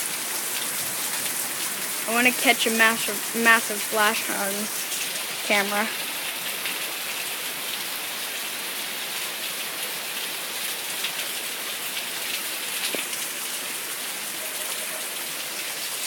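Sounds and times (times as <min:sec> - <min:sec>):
heavy rain falling: 0:00.0 - 0:16.0
raindrops hitting close by: 0:00.0 - 0:16.0.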